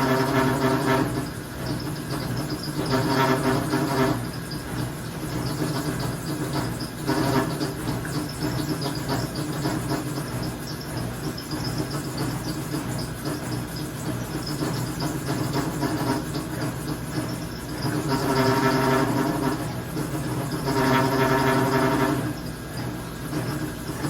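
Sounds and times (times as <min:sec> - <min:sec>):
washing machine hum and rumble: 0:00.0 - 0:24.0.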